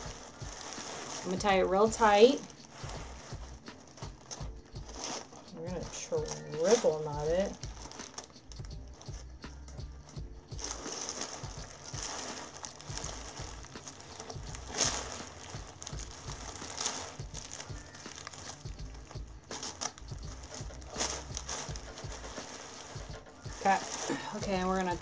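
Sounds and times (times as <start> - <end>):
cellophane crinkling and rustling: 0.0 - 25.0.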